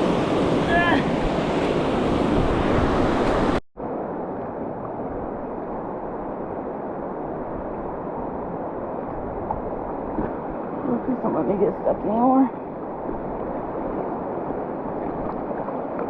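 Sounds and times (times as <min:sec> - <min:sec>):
river water rushing: 0:00.0 - 0:16.0
wind on microphone: 0:00.0 - 0:16.0.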